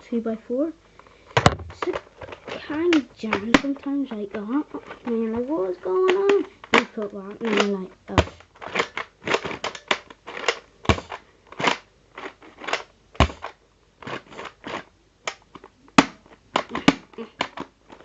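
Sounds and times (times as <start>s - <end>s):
plastic toy blaster clicks and clacks: 1.8s - 18.0s.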